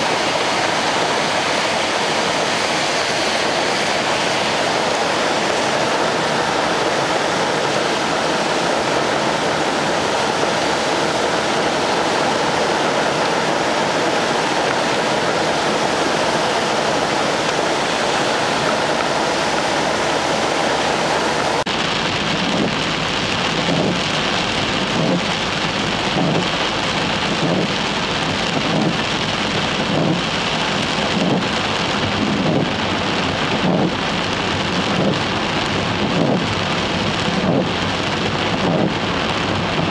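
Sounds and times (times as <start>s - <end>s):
heavy rain: 0.0s - 39.9s
rain hitting moving car: 0.0s - 39.9s.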